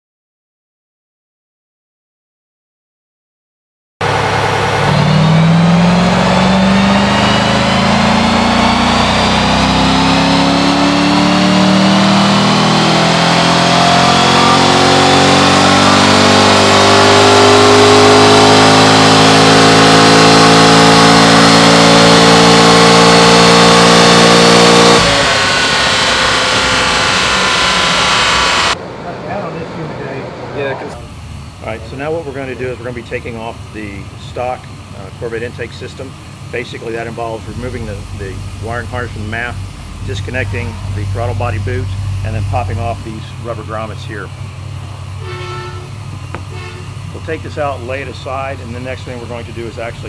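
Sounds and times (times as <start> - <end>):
car engine under load: 4.0 - 50.0
rough noisy engine: 4.0 - 50.0.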